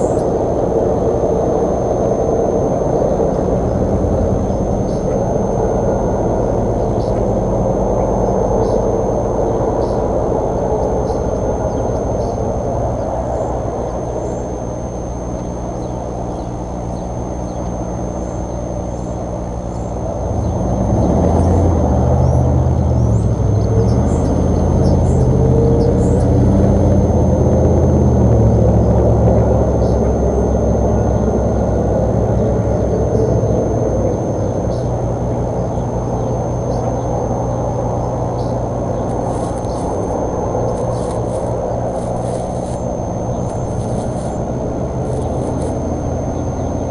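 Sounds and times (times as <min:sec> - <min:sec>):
low engine rumble: 0:00.0 - 0:46.9
faint bird chirps: 0:01.8 - 0:46.9.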